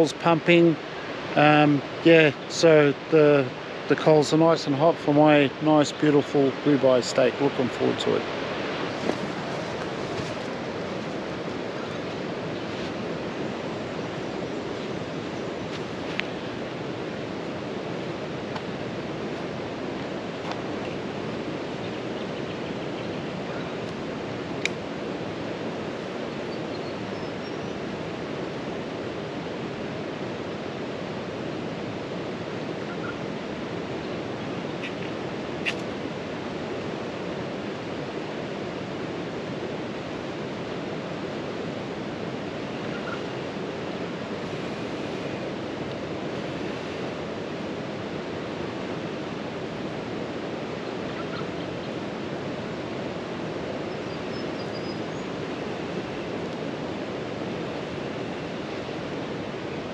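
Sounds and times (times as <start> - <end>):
river rushing: 0.0 - 59.9.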